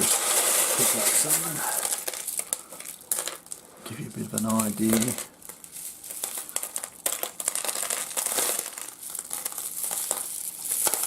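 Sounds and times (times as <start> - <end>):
stones clicking and scraping by hand: 0.0 - 3.6, 4.3 - 11.0.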